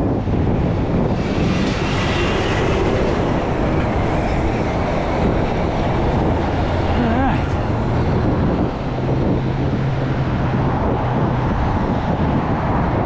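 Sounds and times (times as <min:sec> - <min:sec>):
cars passing: 0:00.0 - 0:13.0
heavy truck passing: 0:00.1 - 0:13.0.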